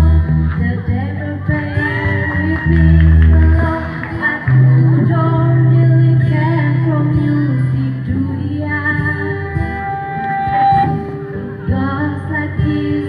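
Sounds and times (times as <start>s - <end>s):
acoustic guitar: 0.0s - 13.0s
bass guitar: 0.0s - 13.0s.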